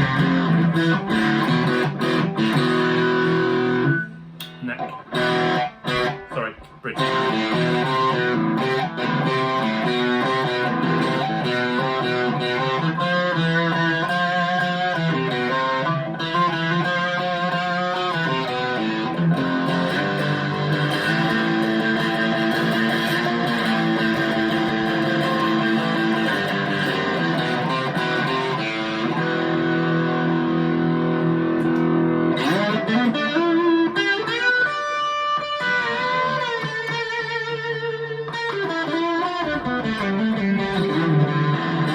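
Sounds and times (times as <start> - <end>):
electric guitar playing: 0.0 - 41.9.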